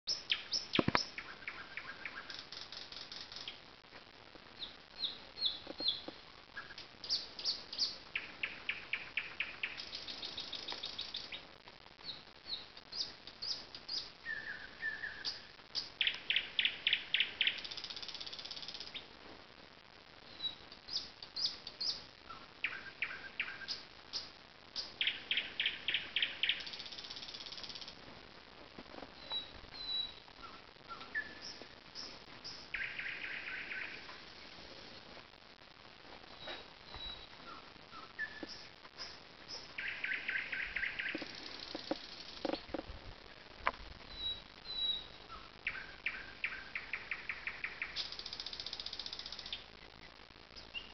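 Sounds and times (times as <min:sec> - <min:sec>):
nightingale singing: 0:00.1 - 0:03.6, 0:04.6 - 0:19.1, 0:20.3 - 0:28.0, 0:29.1 - 0:34.2, 0:36.3 - 0:42.8, 0:44.0 - 0:50.9.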